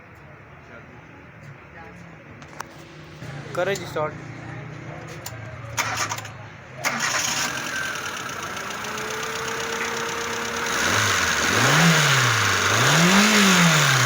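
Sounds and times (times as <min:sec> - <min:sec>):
car engine idling and revving: 0:02.4 - 0:14.0.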